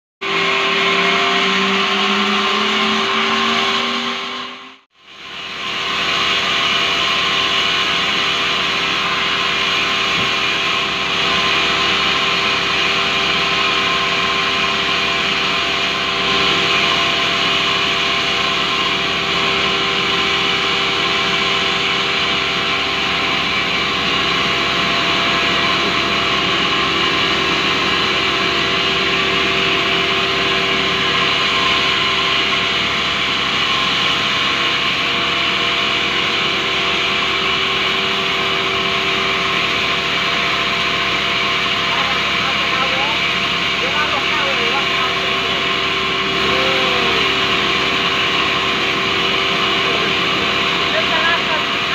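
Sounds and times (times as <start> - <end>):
band saw cutting log: 0.2 - 4.8, 5.5 - 51.9.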